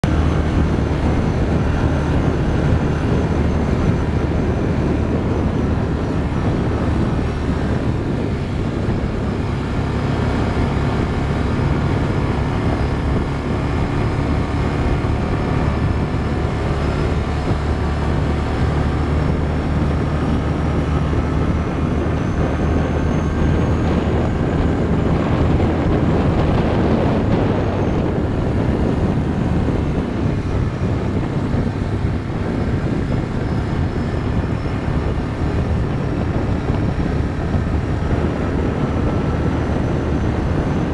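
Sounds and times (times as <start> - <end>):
atv engine droning: 0.0 - 40.9
wind noise: 0.0 - 40.9.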